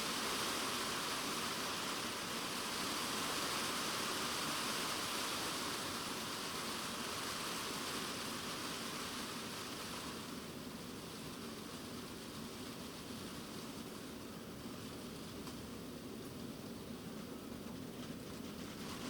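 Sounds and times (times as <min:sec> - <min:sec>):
rain drumming on shed roof: 0:00.0 - 0:19.0.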